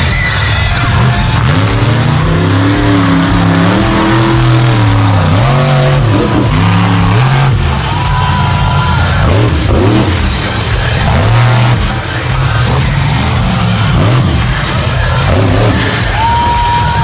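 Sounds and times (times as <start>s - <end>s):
music playing: 0.0s - 17.0s
truck engine revving: 0.0s - 17.0s.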